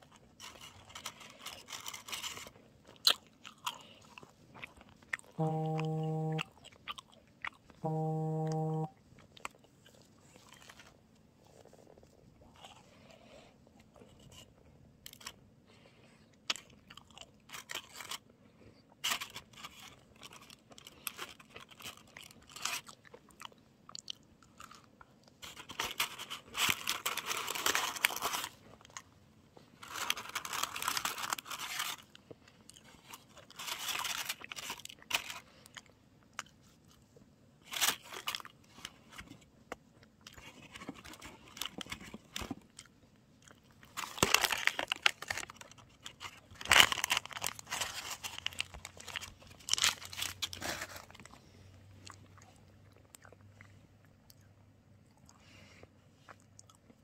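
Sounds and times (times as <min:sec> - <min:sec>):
crunchy chewing: 0:00.0 - 0:15.4, 0:16.4 - 0:57.0.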